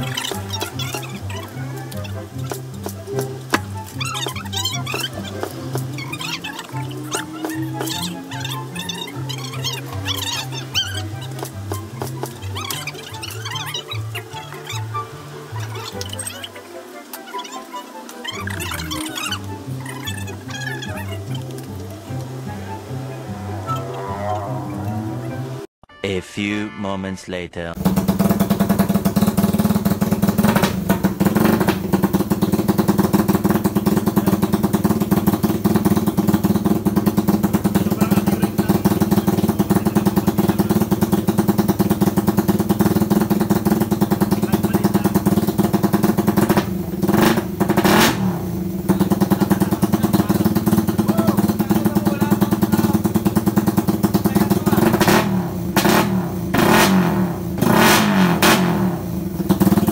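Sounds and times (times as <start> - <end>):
motorcycle engine idling and revving: 0.0 - 17.0, 27.8 - 59.9.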